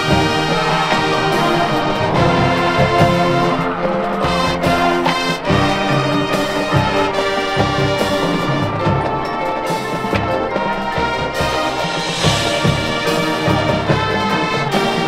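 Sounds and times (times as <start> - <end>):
brass chords: 0.0 - 15.0
drums and percussion: 0.0 - 15.0
marching band playing: 0.0 - 15.0.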